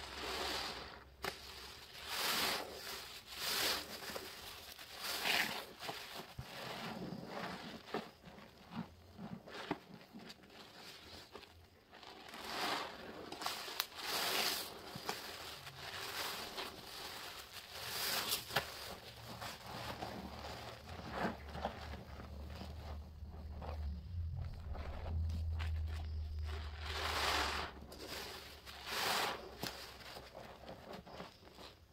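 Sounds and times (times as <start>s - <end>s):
crackling foam: 0.0s - 31.9s
sponge squelching in soapy water: 0.0s - 31.9s.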